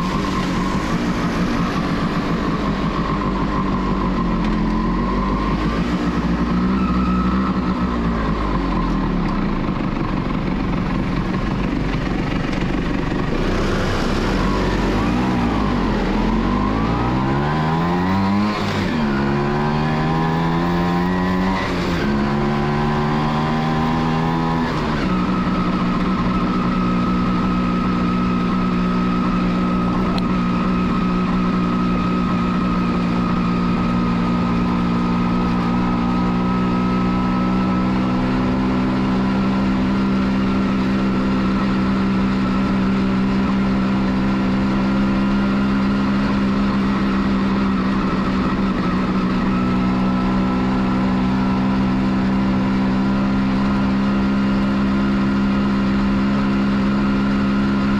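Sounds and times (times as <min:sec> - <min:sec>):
motorcycle two-stroke engine: 0:00.0 - 0:57.9
wind and road noise: 0:00.0 - 0:57.9.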